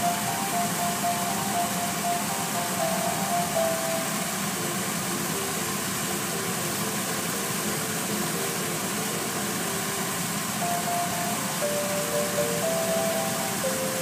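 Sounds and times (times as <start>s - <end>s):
car-wash machinery hiss: 0.0s - 14.0s
faint melody of short notes: 0.0s - 14.0s.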